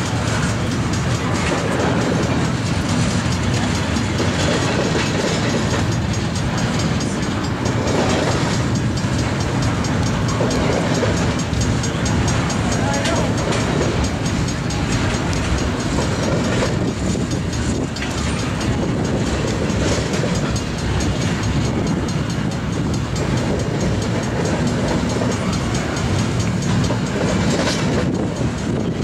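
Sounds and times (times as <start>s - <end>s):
diesel locomotive engine rumbling: 0.0s - 29.0s
train wheels clicking over rails: 0.0s - 29.0s.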